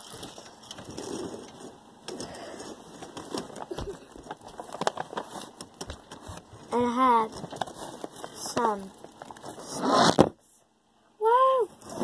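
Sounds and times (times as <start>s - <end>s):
rustling: 0.0s - 10.3s.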